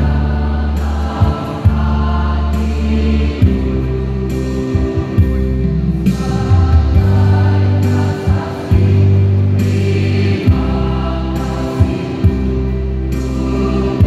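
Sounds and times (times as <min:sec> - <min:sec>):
choir singing in harmony: 0:00.0 - 0:14.0.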